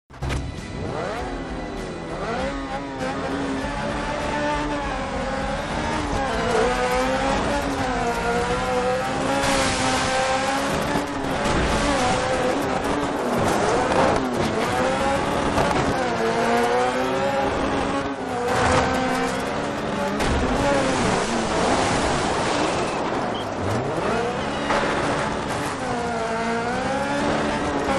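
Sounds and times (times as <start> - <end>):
buggy engine revving: 0.1 - 27.9
steady rushing noise: 0.4 - 27.9.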